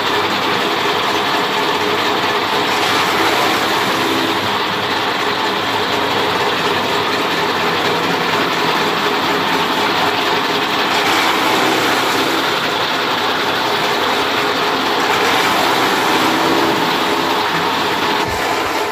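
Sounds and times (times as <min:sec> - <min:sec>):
chaff cutter chopping fodder: 0:00.0 - 0:18.9.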